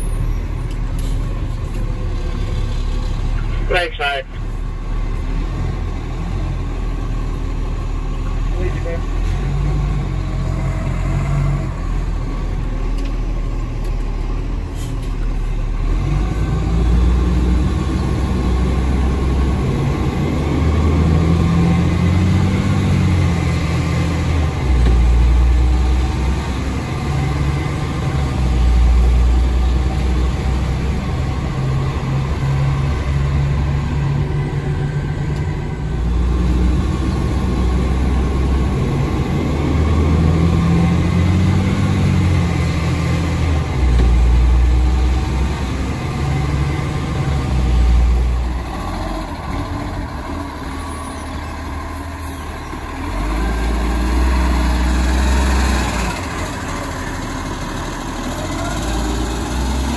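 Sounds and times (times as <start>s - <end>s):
truck diesel engine accelerating: 0.0s - 59.9s.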